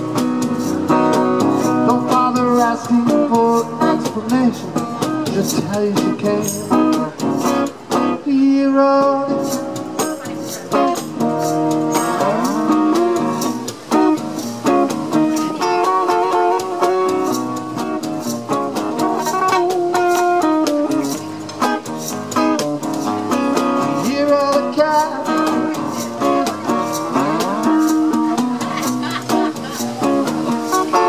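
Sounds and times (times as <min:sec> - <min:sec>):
acoustic guitar with sliding notes: 0:00.0 - 0:31.0
cajon beat: 0:00.0 - 0:31.0.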